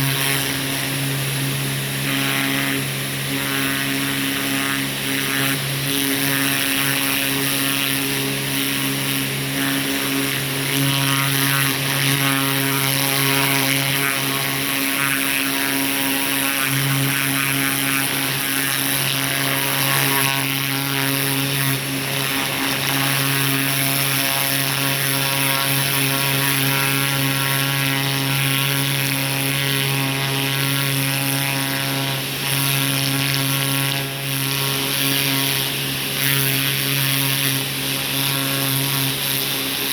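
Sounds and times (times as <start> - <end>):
pressure washer motor hum: 0.0 - 39.9.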